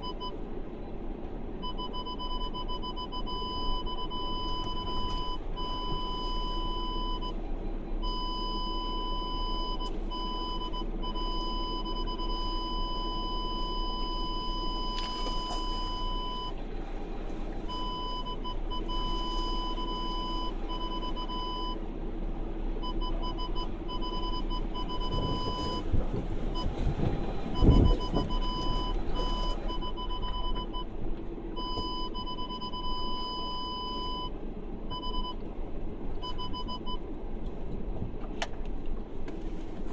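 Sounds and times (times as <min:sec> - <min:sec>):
car rumbling over dirt track: 0:00.0 - 0:39.9.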